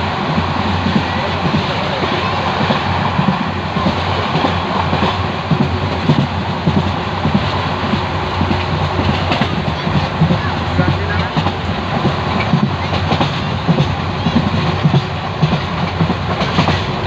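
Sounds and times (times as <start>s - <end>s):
train wheels rumbling on rails: 0.0s - 17.0s
knocks and clacks: 0.9s - 17.0s.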